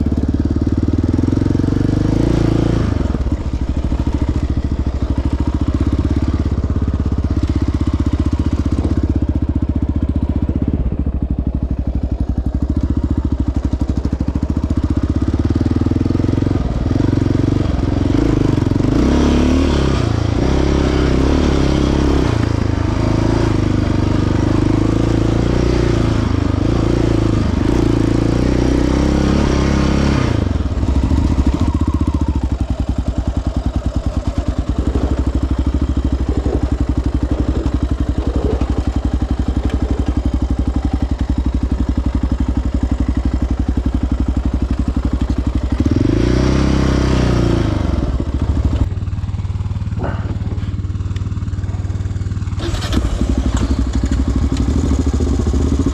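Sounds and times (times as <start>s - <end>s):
atv engine revving and idling: 0.0s - 55.9s.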